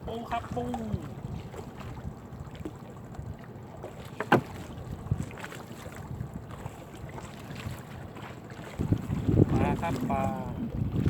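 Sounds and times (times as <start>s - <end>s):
wind on microphone: 0.0s - 3.4s, 4.5s - 8.0s, 8.7s - 11.0s.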